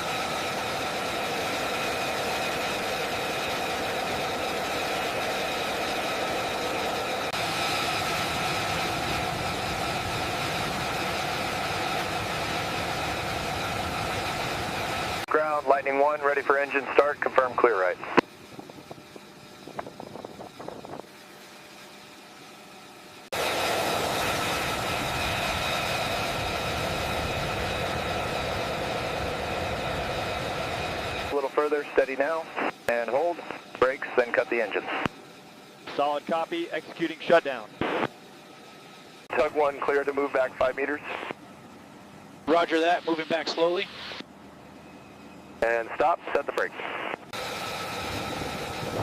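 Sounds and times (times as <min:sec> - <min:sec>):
jet engine idling: 0:00.0 - 0:49.0.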